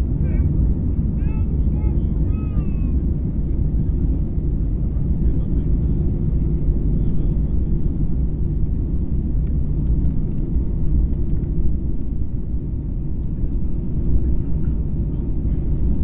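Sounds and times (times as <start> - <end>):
airliner cabin drone: 0.0 - 16.0.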